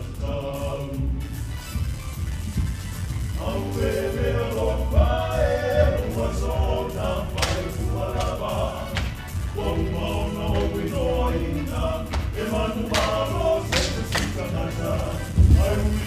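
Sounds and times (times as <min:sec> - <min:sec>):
choir singing: 0:00.0 - 0:01.4, 0:03.4 - 0:16.0
steady low rumble: 0:00.0 - 0:16.0.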